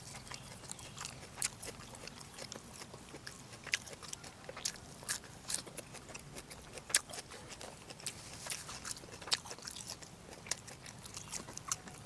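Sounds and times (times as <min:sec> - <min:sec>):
person chewing with mouth smacks: 0:00.0 - 0:12.0.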